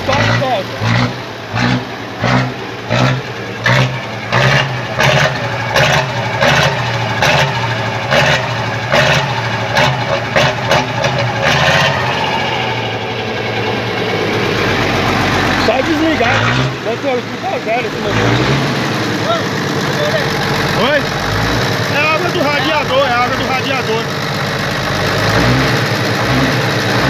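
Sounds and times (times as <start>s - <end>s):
diesel truck engine revving: 0.0s - 27.0s.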